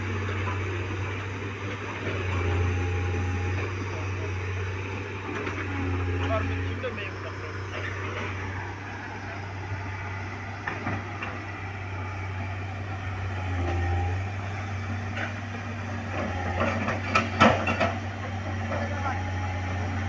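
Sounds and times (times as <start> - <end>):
heavy vehicle engine droning: 0.0 - 20.0.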